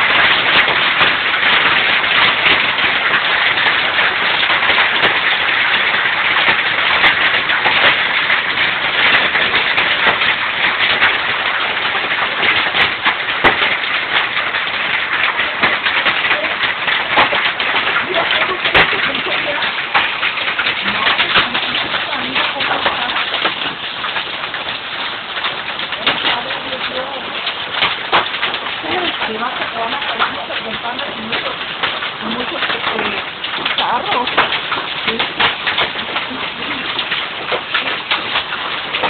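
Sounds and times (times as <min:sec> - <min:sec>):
hailstones striking hard surfaces: 0:00.0 - 0:39.0
heavy rain pouring: 0:00.0 - 0:39.0.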